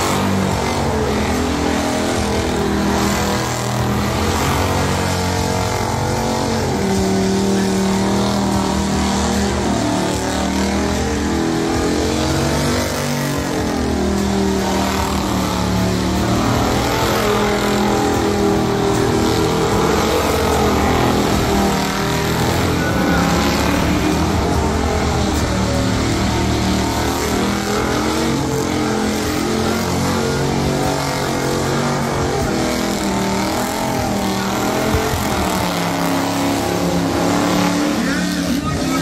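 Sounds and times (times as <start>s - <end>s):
truck engine revving high: 0.0s - 39.0s
tyres spinning: 0.0s - 39.0s.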